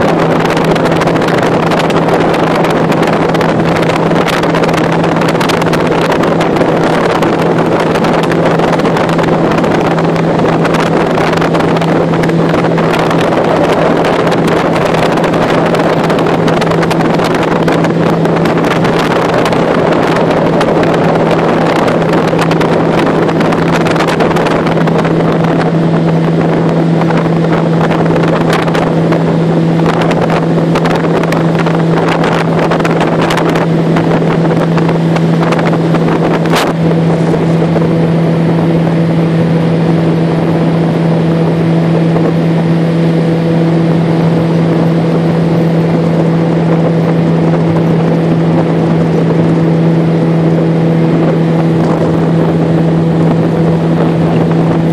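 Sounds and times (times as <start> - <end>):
boat engine droning: 0.0 - 54.9
rushing water: 0.0 - 54.9.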